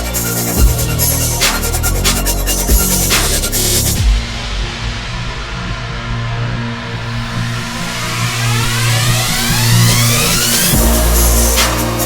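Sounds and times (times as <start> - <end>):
electronic music with bass line: 0.0 - 12.0.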